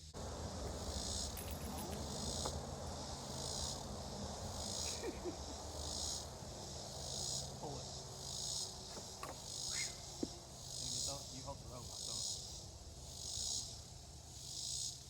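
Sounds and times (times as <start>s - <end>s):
insects buzzing in pulses: 0.0s - 15.0s.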